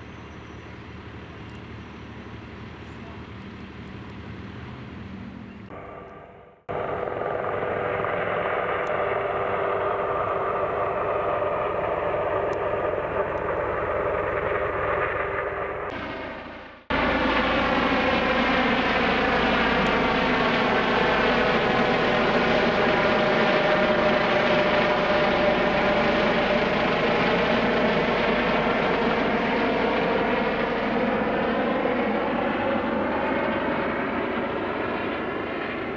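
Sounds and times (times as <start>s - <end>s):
helicopter turbines and rotor whine: 0.0s - 35.9s.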